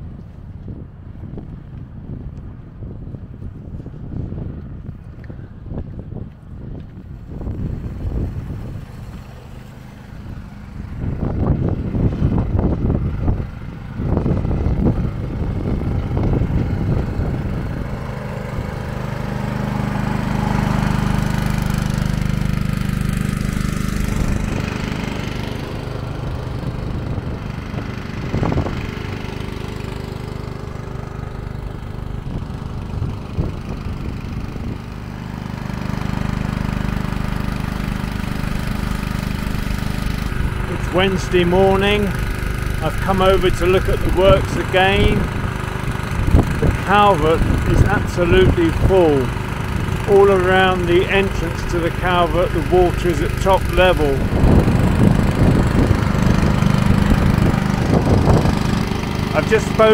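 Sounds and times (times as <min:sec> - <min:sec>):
engine-driven water pump running: 0:00.0 - 0:59.9
loud irregular rumbling: 0:07.2 - 0:59.9.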